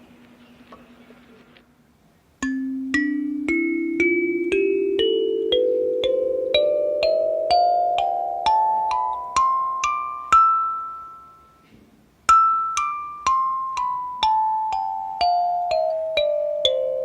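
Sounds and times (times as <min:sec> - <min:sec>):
kalimba notes plucked: 0:02.4 - 0:11.6, 0:12.3 - 0:17.0.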